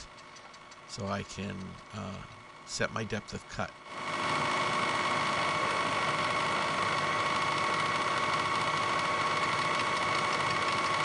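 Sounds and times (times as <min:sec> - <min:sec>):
milling machine hum and whine: 0:00.0 - 0:11.0.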